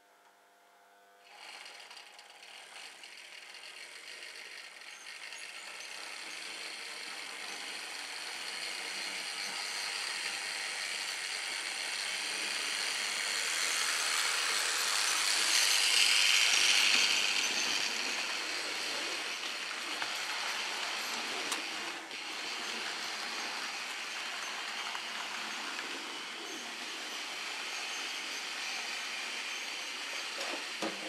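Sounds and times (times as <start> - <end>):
model train motor whine: 1.2 - 31.0.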